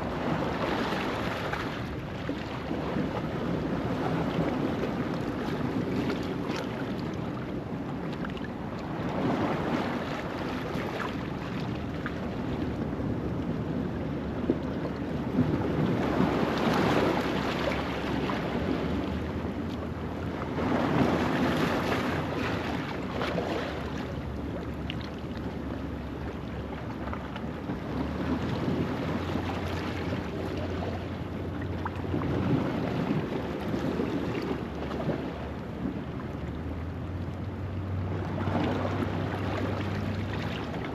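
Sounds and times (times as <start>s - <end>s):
waves washing over rocks: 0.0s - 40.9s.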